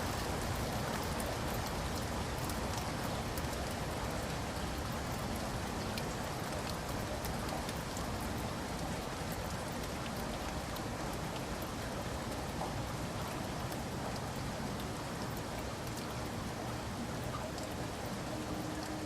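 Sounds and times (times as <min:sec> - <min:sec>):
steady rainfall: 0:00.0 - 0:19.0.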